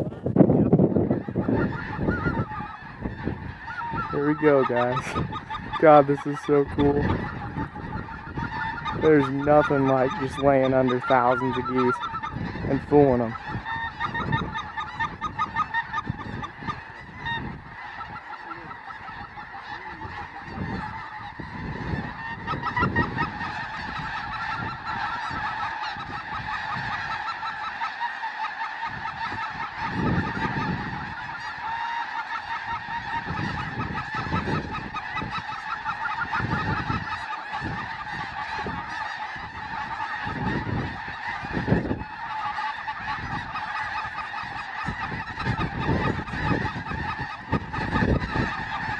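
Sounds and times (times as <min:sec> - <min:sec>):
flock of geese honking: 0:00.0 - 0:48.9.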